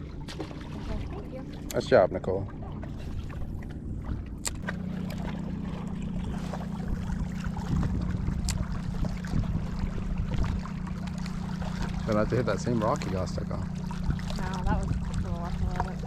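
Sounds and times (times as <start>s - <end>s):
steady low hum: 0.0s - 16.0s
wind and water rumble: 0.0s - 16.0s.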